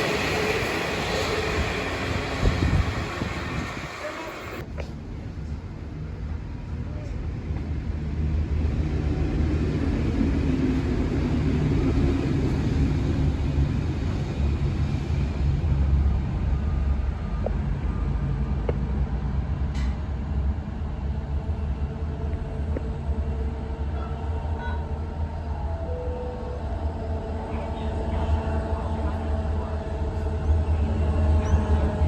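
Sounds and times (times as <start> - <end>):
train rumbling past: 0.0 - 32.0.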